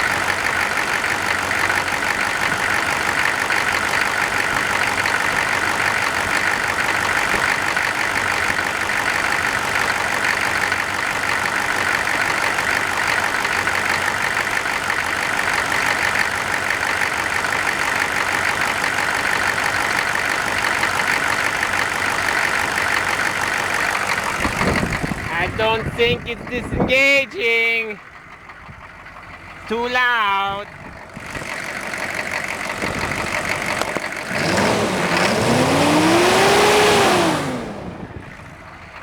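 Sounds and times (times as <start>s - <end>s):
engine cooling fan running: 0.0s - 39.0s
engine idling: 0.0s - 39.0s.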